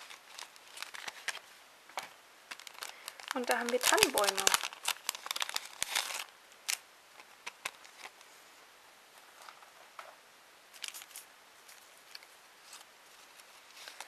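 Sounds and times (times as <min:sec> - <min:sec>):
paper rustling and clicking: 0:00.0 - 0:08.2, 0:10.8 - 0:14.0
wrapping crinkling: 0:00.0 - 0:08.3, 0:10.7 - 0:14.0.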